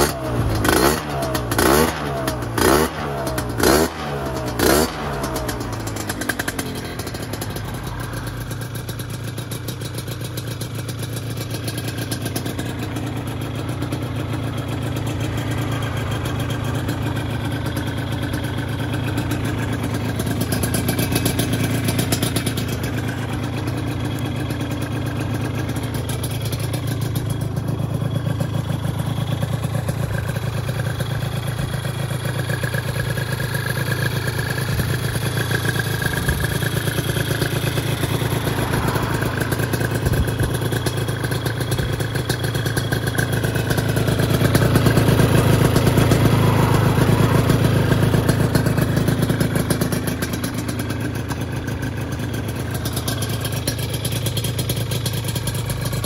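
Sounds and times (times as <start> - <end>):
scooter engine idling: 0.0 - 56.0.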